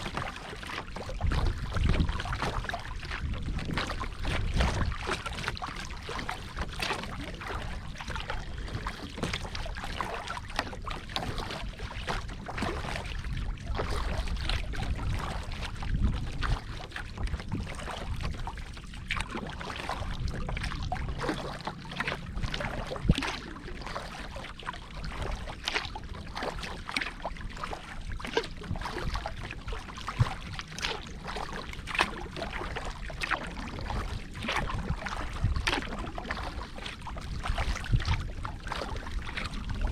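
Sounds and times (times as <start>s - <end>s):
water splashing and dripping: 0.0s - 13.1s, 19.1s - 39.9s
wind rumble on microphone: 0.0s - 39.9s.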